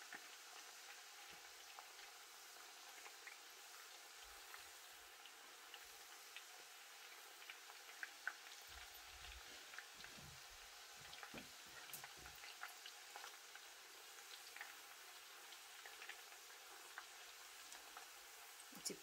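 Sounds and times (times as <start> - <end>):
oil sizzling with pops: 0.0 - 19.0.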